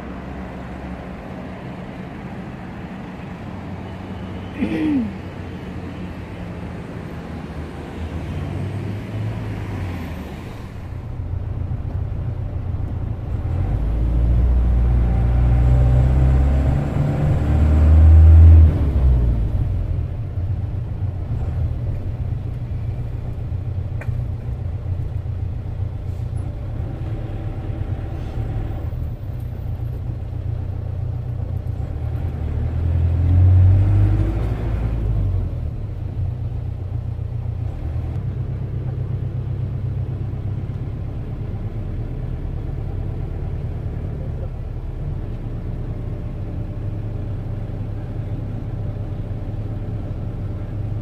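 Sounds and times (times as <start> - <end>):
road traffic: 0.0 - 51.0
vehicle engine and tyres rumbling: 0.0 - 51.0.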